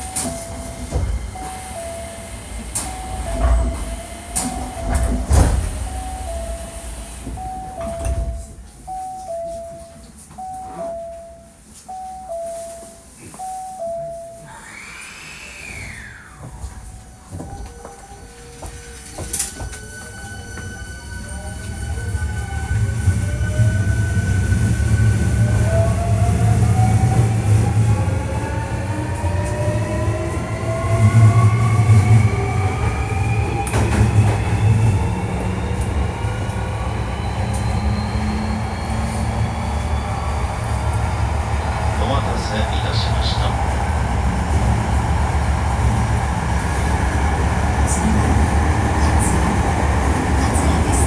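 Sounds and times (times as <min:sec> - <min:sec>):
wheels rumbling on rail: 0:00.0 - 0:11.2, 0:12.3 - 0:51.0.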